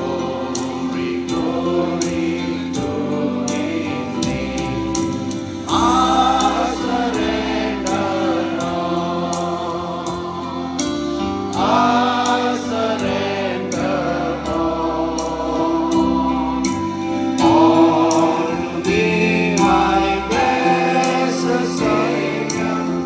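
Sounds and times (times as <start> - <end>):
choir singing a hymn: 0.0 - 23.0
sustained accompaniment with beat: 0.0 - 23.0.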